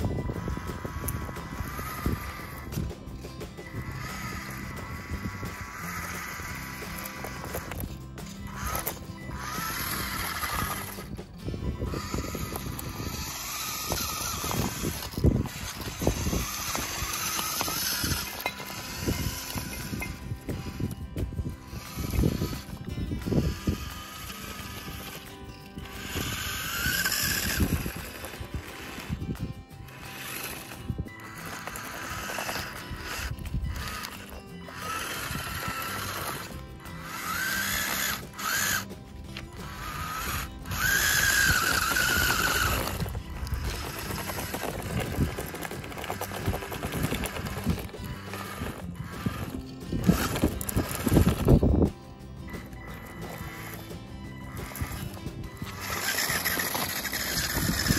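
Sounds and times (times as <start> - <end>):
toy motor and gears whining: 0.0 - 57.9
tyres crunching over dirt: 0.0 - 57.9.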